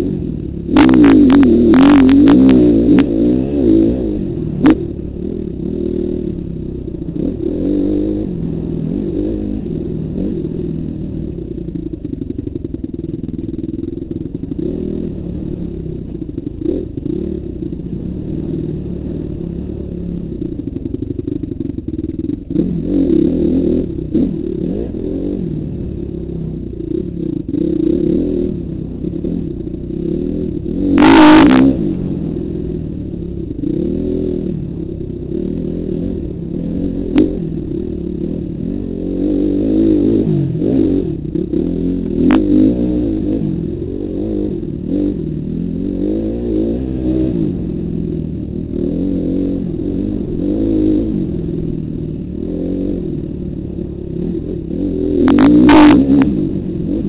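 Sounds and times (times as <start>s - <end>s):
dirt bike engine revving: 0.0s - 12.2s, 13.6s - 21.0s, 22.2s - 57.0s.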